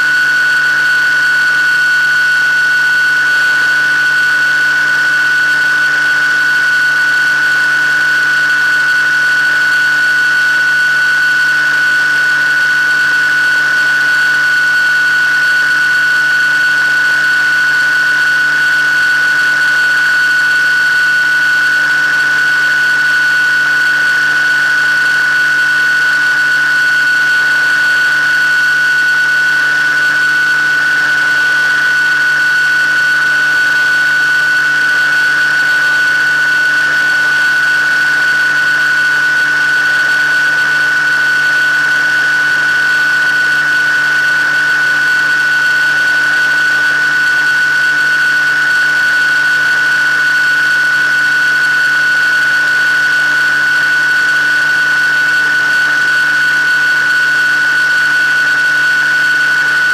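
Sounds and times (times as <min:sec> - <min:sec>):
model aircraft motor whine: 0:00.0 - 0:59.9.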